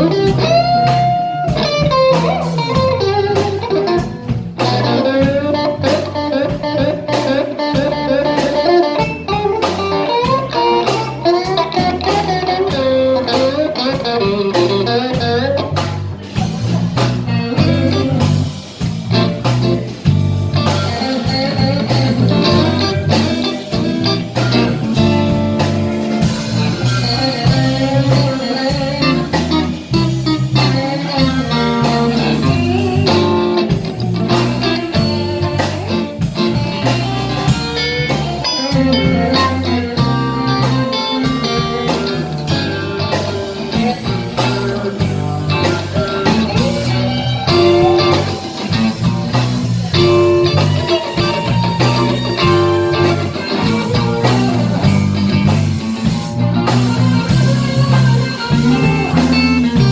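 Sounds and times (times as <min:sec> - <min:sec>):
blues band playing: 0:00.0 - 0:59.9
electric guitar lead: 0:00.0 - 0:59.9.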